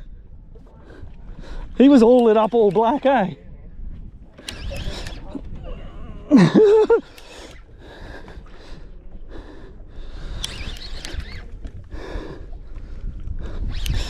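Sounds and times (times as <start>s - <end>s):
low wind noise: 0.0s - 14.0s.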